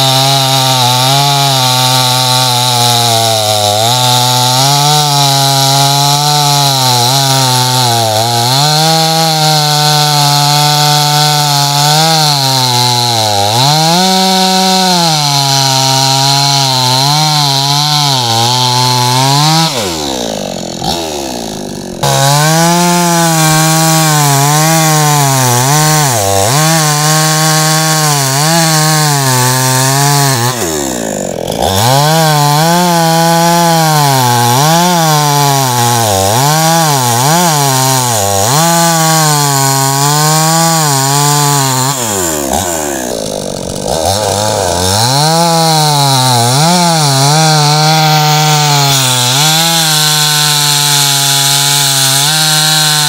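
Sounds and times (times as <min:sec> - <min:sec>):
chainsaw cutting through log: 0:00.0 - 0:53.0.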